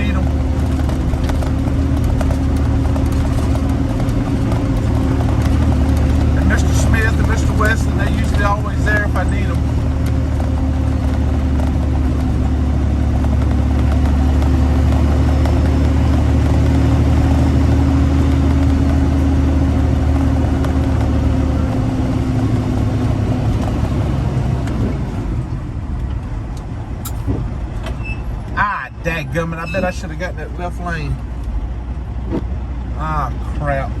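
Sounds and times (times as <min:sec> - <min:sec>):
diesel truck engine droning: 0:00.0 - 0:34.0.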